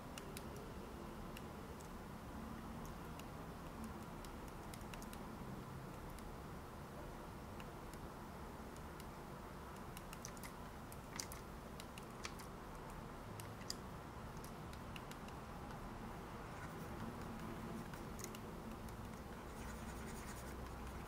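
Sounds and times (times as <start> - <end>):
low steady hiss: 0.0 - 21.0.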